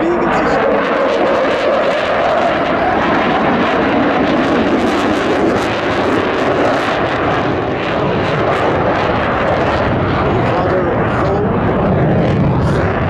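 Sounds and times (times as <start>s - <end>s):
fighter jet passing low: 0.0s - 13.0s.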